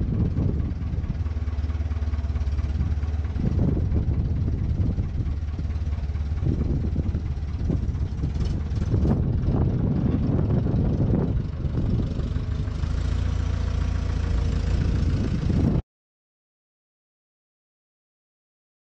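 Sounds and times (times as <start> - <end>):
diesel engine idling: 0.0 - 15.8.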